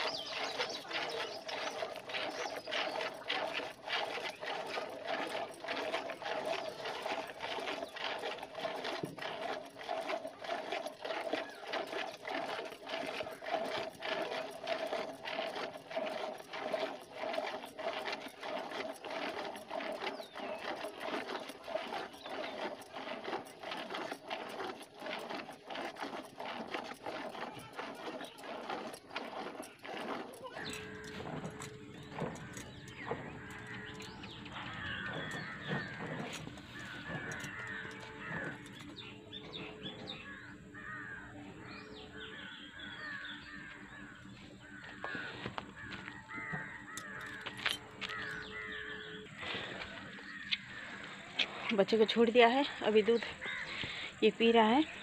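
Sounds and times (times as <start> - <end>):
milk squirting into metal bucket: 0.0 - 42.0, 42.8 - 55.0.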